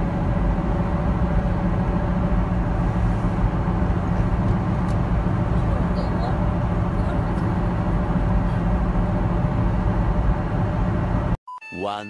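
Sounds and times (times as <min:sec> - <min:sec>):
car cabin road and engine rumble: 0:00.0 - 0:11.4.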